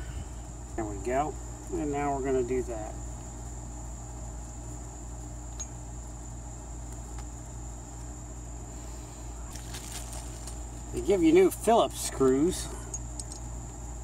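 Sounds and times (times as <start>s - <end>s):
faint high whine: 0.0s - 14.0s
steady low hum: 0.0s - 14.0s.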